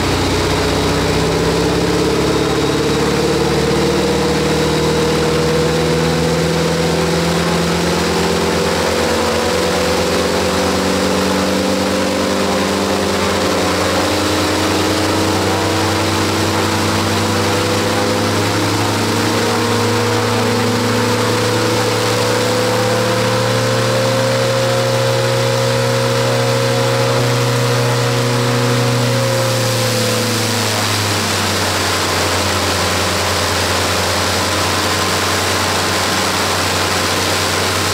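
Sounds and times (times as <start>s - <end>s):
truck engine driving a propeller: 0.0s - 37.9s.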